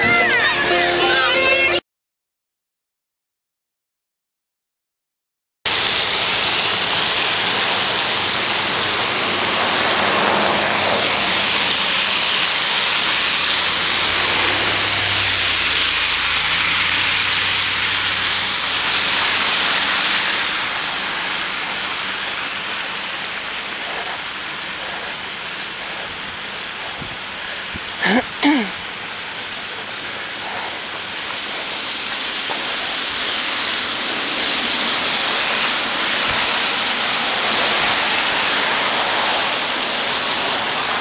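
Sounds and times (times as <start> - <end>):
car passing on wet pavement: 5.7 - 41.0
rain falling on a wet road: 5.7 - 41.0.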